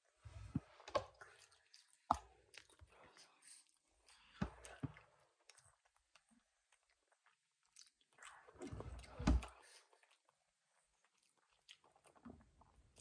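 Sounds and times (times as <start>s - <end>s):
person chewing food: 0.5s - 13.0s.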